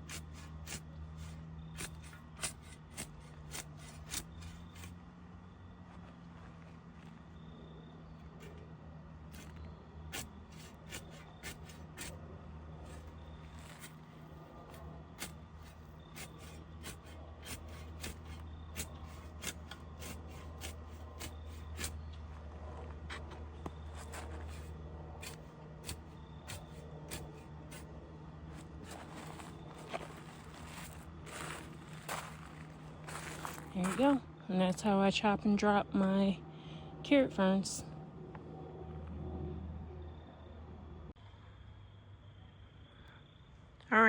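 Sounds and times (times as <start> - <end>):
steady low hum: 0.0 - 43.8.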